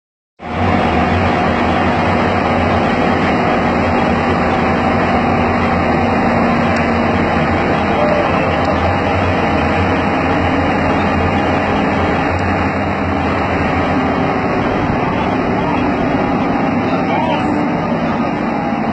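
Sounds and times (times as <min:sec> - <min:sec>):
diesel train engine running: 0:00.4 - 0:18.9.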